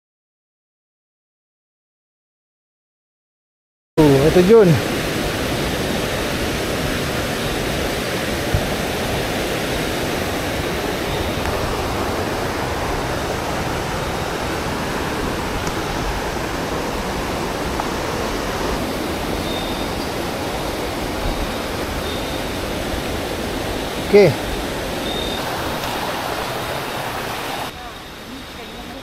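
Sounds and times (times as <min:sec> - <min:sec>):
waterfall rushing: 0:04.0 - 0:29.0.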